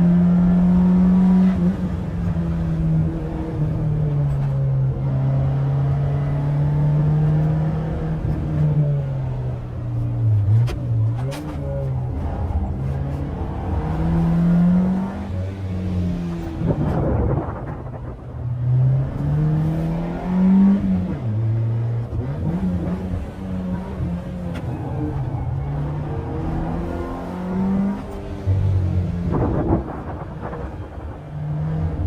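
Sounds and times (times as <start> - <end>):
car engine revving under load: 0.0 - 32.0.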